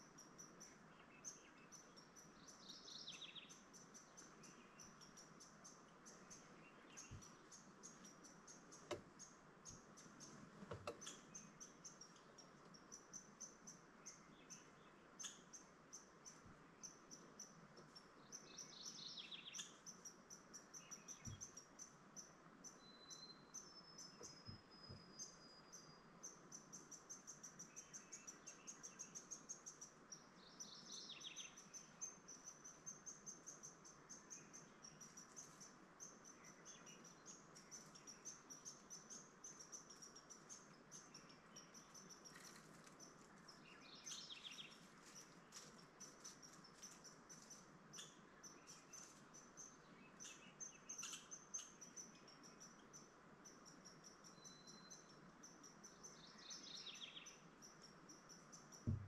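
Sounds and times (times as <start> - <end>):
faint birdsong chips: 0.0 - 59.0.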